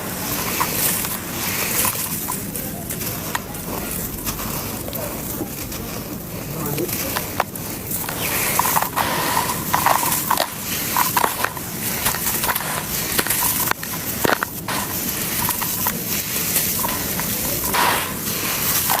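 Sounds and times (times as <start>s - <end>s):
cement chunks crumbling by hand: 0.0s - 19.0s.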